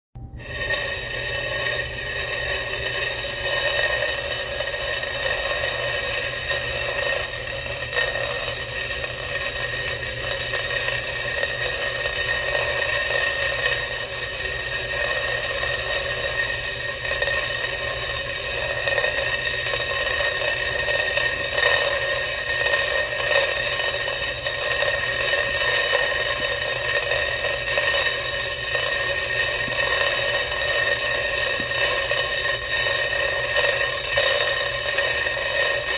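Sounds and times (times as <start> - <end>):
steady machine buzz: 0.2 - 35.9
metal bobbins rattling in pan: 1.0 - 35.9.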